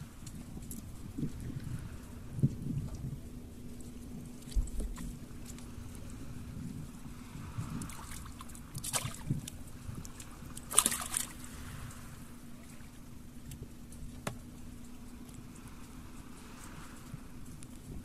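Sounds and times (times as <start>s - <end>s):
low hum: 0.0s - 18.0s
water sloshing and splashing: 0.0s - 18.0s.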